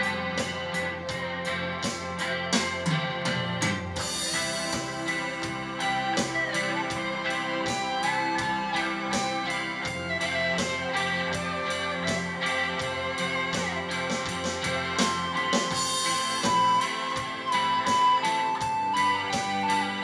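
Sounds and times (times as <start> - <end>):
bass guitar: 0.0 - 20.0
drums with cymbal ticks: 0.0 - 20.0
electric guitar lead with bends: 0.0 - 20.0.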